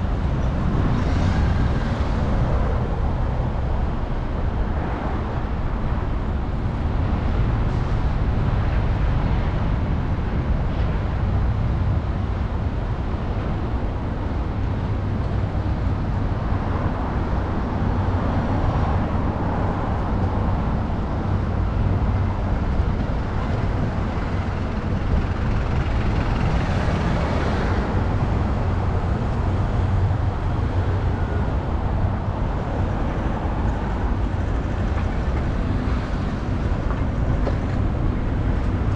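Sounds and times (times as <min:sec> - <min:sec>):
city street traffic noise: 0:00.0 - 0:38.9
constant low rumble: 0:00.0 - 0:38.9.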